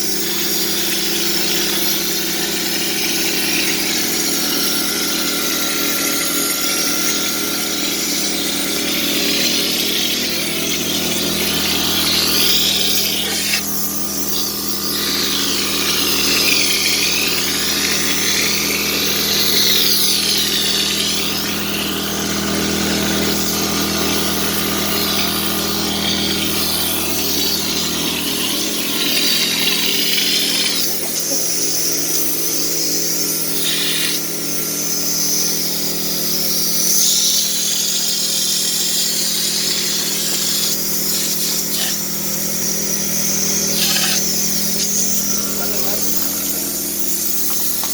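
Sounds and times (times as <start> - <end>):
power tool humming: 0.0 - 47.9.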